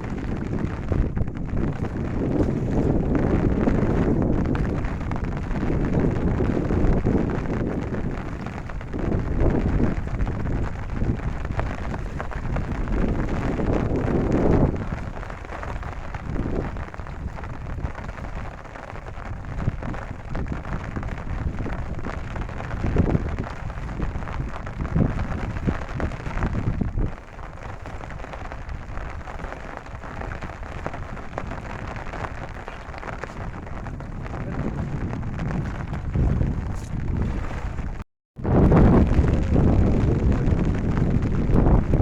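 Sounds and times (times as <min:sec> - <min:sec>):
steady rain falling: 0:00.0 - 0:42.0
wind buffeting microphone: 0:00.0 - 0:42.0.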